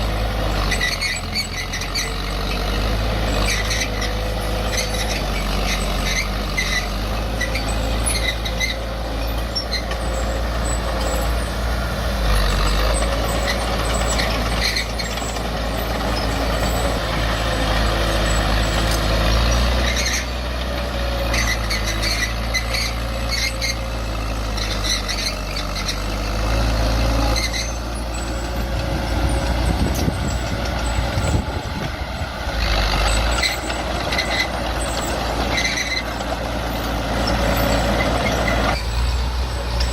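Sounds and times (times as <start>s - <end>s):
diesel machinery running: 0.0s - 39.9s
metallic squeaks and clanks: 0.5s - 11.6s, 12.2s - 39.9s.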